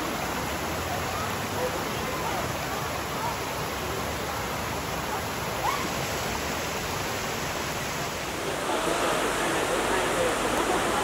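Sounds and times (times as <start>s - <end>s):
water rushing over rock: 0.0s - 11.0s.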